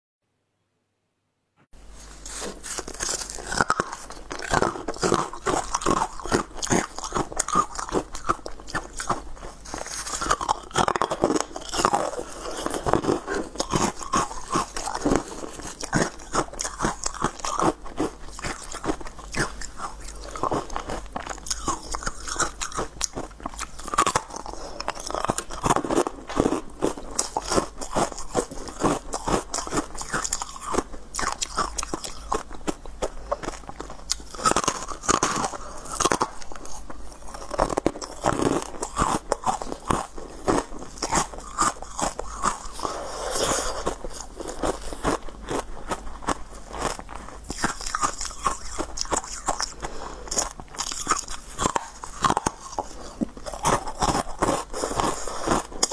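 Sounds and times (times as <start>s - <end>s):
person crunching ice: 2.0s - 55.9s.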